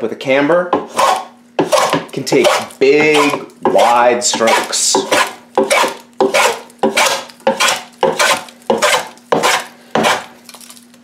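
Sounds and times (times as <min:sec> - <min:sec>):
hand plane cutting wood: 0:00.8 - 0:10.3.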